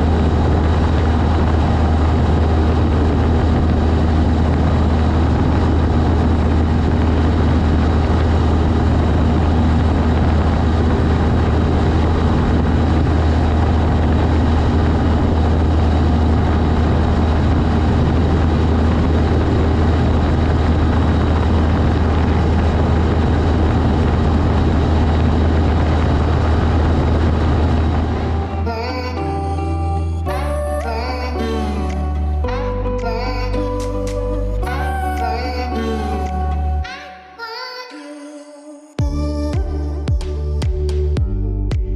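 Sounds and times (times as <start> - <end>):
light aircraft engine droning: 0.0 - 37.1.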